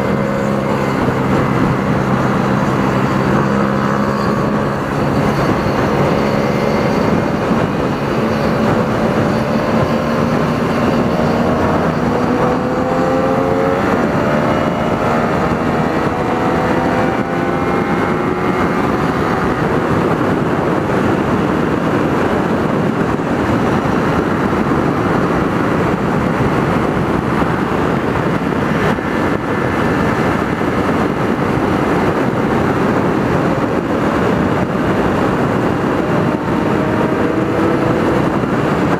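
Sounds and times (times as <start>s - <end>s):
wind noise at speed: 0.0s - 38.9s.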